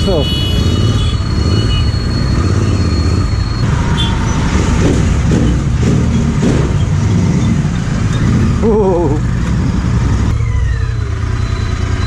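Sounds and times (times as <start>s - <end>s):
low rumble of riding noise: 0.0s - 12.0s.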